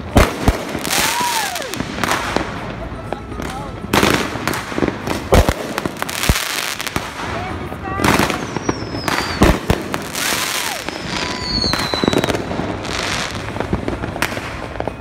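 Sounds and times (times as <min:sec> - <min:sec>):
firecrackers banging: 0:00.0 - 0:15.0
whistling fireworks: 0:00.0 - 0:15.0.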